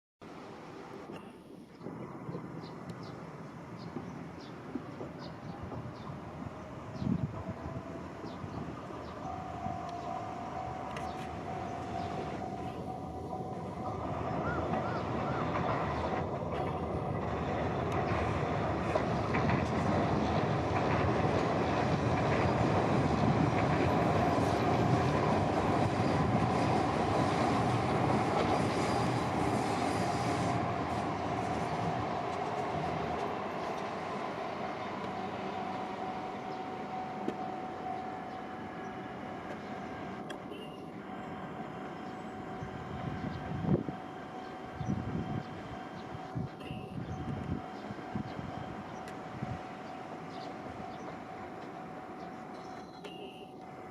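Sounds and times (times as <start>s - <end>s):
train running past: 0.2s - 53.9s.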